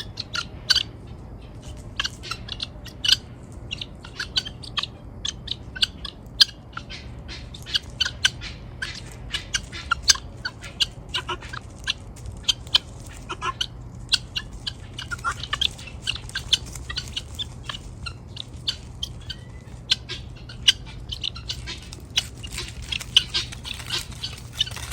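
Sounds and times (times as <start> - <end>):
guinea fowl squawking calls: 0.0 - 24.9.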